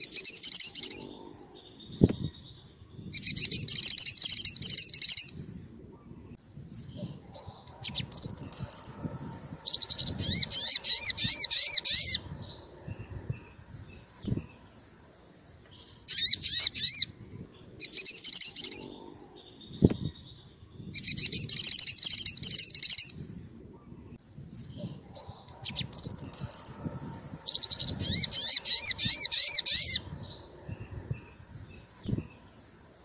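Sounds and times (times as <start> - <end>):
bird singing high-pitched trills: 0.0 - 5.6, 6.3 - 9.0, 9.6 - 23.4, 24.1 - 26.8, 27.4 - 33.0.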